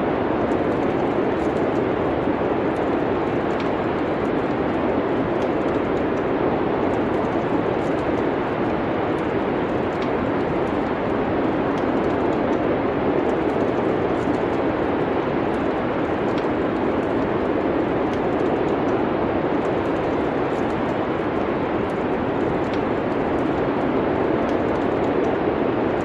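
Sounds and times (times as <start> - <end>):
wood fire crackling: 0.2 - 26.0.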